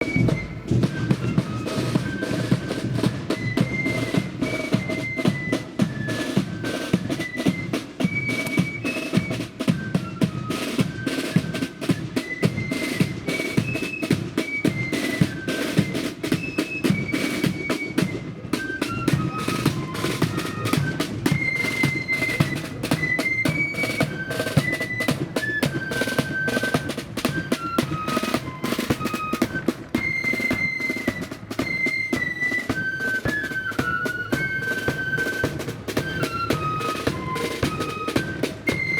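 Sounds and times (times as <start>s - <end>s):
flutes playing a melody: 0.0s - 38.9s
rapid snare drumming: 0.0s - 38.9s.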